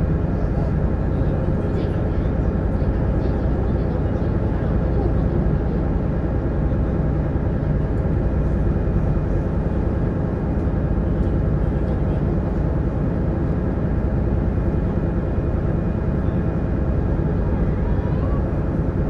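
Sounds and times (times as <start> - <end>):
boat engine drone: 0.0 - 19.0.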